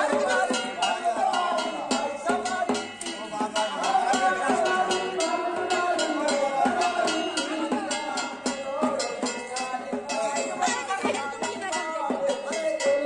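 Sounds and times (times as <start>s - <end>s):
man singing through microphone: 0.0s - 11.0s, 11.7s - 13.0s
quick percussion beat: 0.0s - 13.0s.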